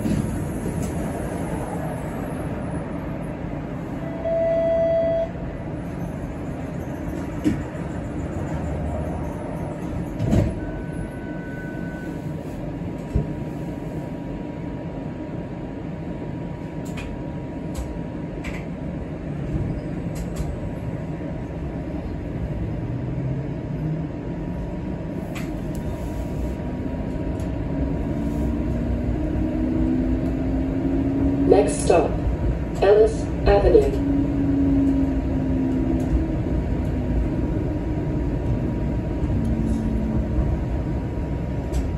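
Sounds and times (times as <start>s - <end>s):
streetcar interior rumble: 0.0s - 41.9s.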